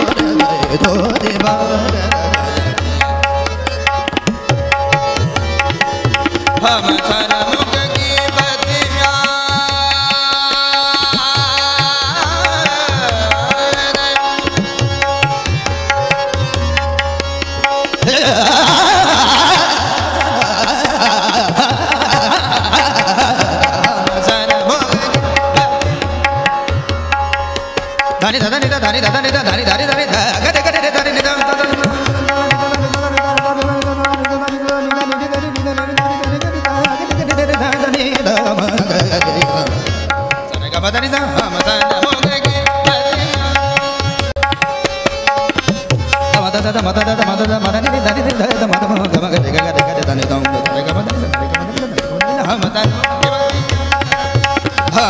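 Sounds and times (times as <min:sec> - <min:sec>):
tabla rhythm: 0:00.0 - 0:55.0.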